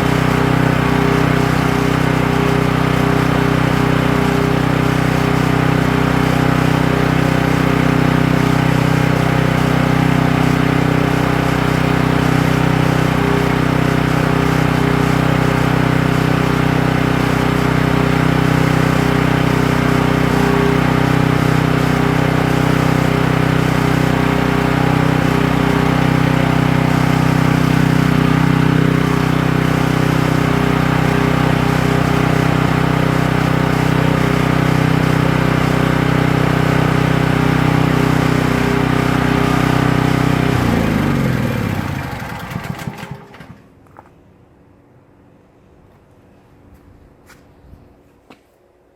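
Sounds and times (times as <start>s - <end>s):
generator engine drone: 0.0s - 45.4s.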